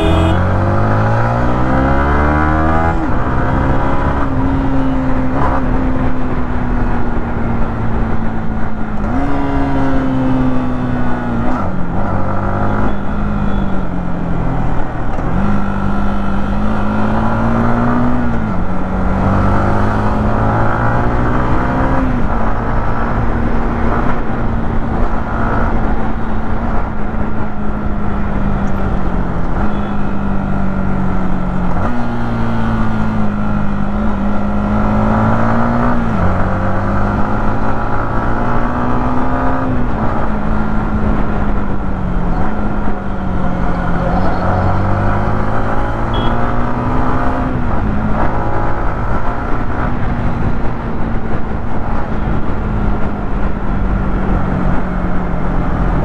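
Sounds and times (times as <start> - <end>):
motorcycle engine revving: 0.0 - 6.3, 14.8 - 56.0
road and wind noise: 0.0 - 56.0.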